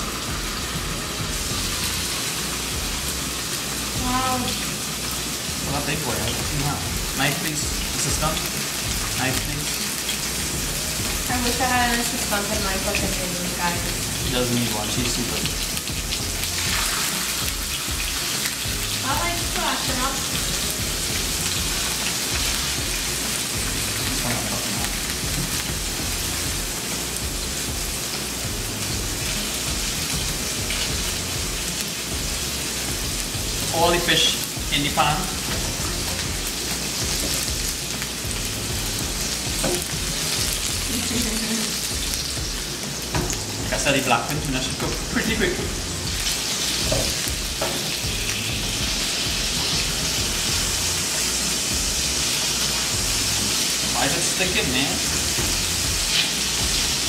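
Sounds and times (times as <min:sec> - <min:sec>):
fish frying in oil: 0:00.0 - 0:57.0.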